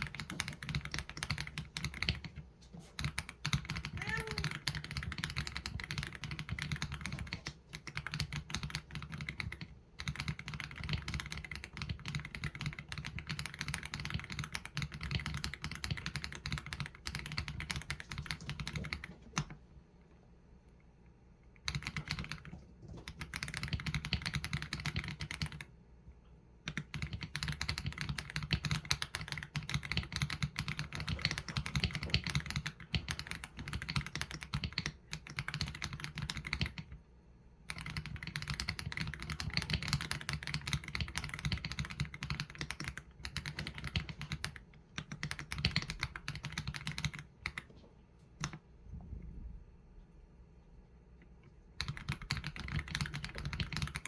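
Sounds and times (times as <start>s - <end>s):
typing on mechanical keyboard: 0.0s - 19.6s, 21.6s - 25.8s, 26.6s - 37.0s, 37.6s - 47.7s, 48.4s - 48.6s, 51.8s - 54.0s.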